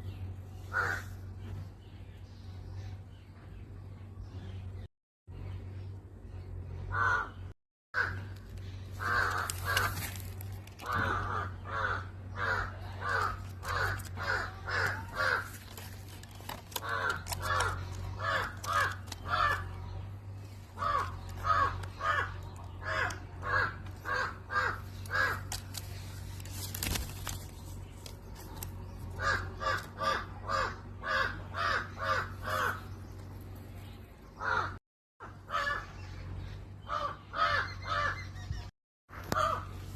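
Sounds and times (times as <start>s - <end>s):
bird harsh calls: 0.0s - 3.1s, 5.7s - 39.9s
steady low hum: 0.0s - 39.9s.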